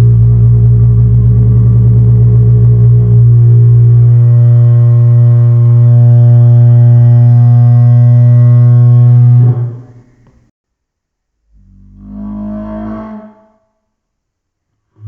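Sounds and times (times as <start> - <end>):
deep slowed horn call: 0.0 - 10.4, 11.5 - 13.6.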